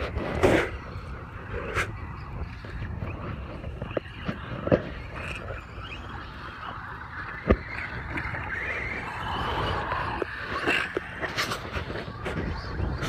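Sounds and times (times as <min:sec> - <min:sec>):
toy truck motors and tyres on dirt: 0:00.0 - 0:13.0.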